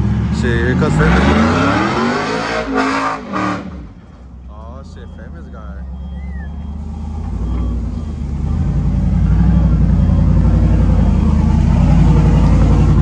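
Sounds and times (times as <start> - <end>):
vehicle engine running loud: 0.0 - 13.0.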